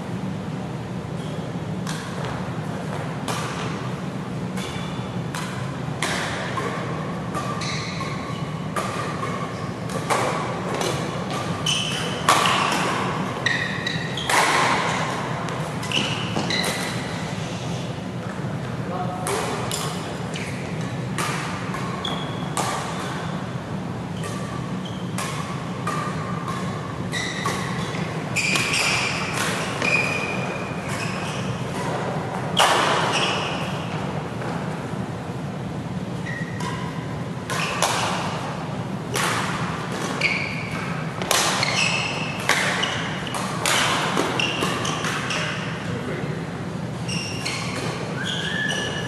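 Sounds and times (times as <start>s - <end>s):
shoes squeaking on court: 1.1s - 17.4s, 19.6s - 23.5s, 24.1s - 34.7s, 36.1s - 38.5s, 39.2s - 46.1s, 46.7s - 49.0s
rackets hitting shuttlecock: 1.7s - 17.2s, 19.2s - 34.8s, 36.4s - 46.0s.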